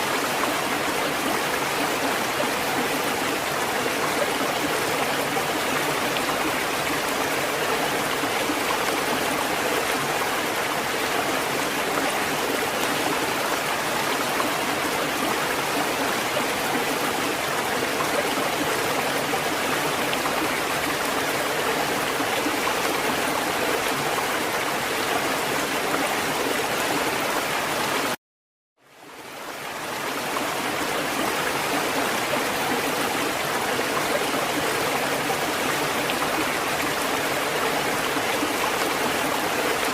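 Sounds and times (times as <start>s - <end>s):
rushing water: 0.0s - 28.2s, 28.8s - 39.9s.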